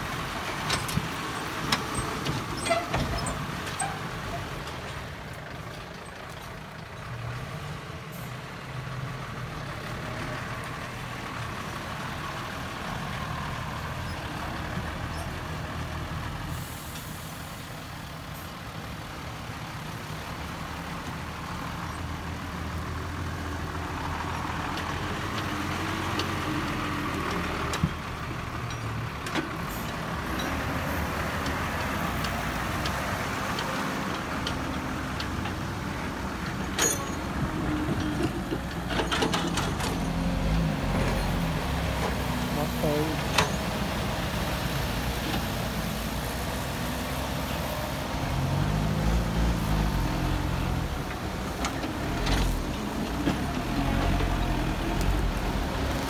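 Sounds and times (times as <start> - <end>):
diesel engine humming: 0.0 - 56.0.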